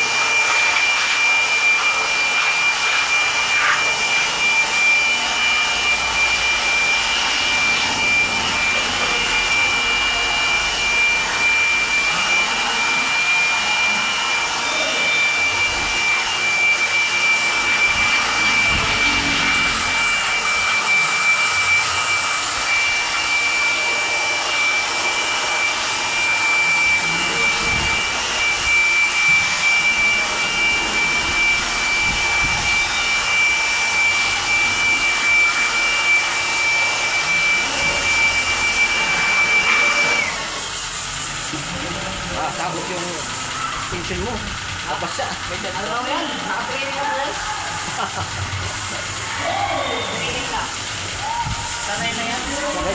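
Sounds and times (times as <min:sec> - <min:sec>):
electric motor whining: 0:00.0 - 0:52.9.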